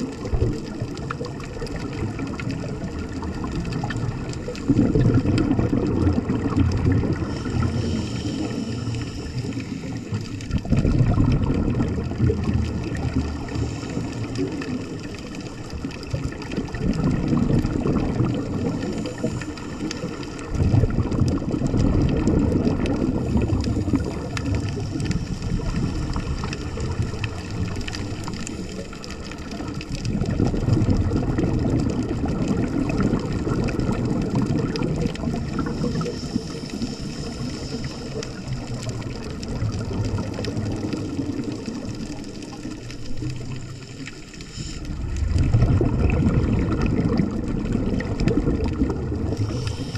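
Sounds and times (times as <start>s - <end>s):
regulator bubbles gurgling: 0.0s - 49.9s
underwater hiss: 0.0s - 49.9s.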